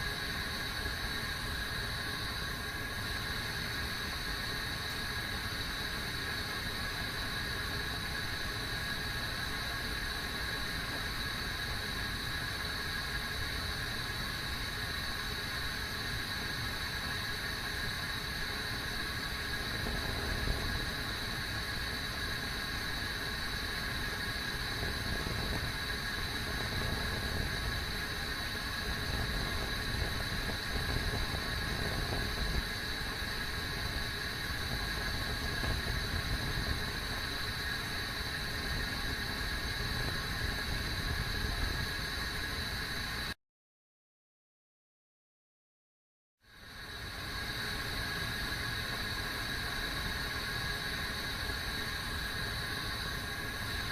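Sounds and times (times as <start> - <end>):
kettle high-pitched whine: 0.0 - 43.4, 46.4 - 53.9.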